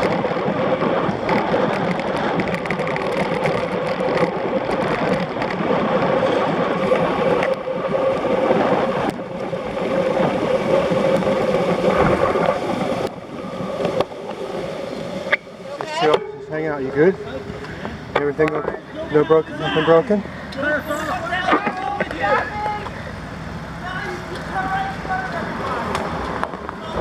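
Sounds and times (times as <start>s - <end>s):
constant hum: 0.0s - 27.0s
rushing wind: 0.0s - 27.0s
traffic noise: 0.0s - 27.0s.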